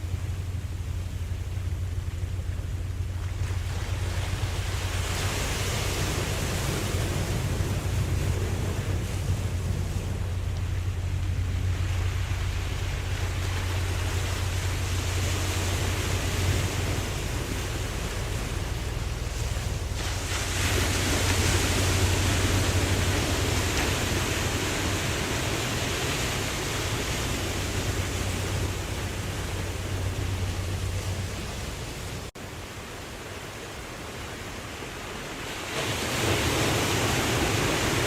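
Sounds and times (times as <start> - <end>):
ocean waves washing: 0.0 - 38.0.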